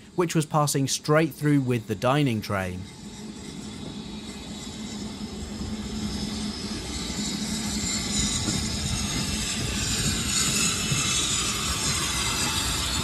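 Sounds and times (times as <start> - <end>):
steam hissing: 0.0 - 13.0
train wheels rumbling on track: 0.0 - 13.0.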